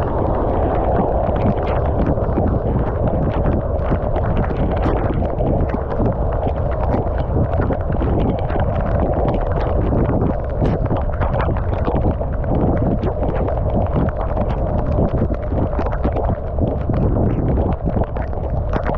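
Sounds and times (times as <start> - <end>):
wind rushing over microphone: 0.0 - 18.9.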